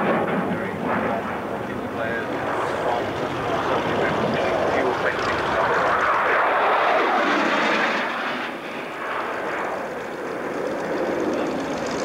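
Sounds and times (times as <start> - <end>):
jet aircraft passing: 0.0 - 12.0.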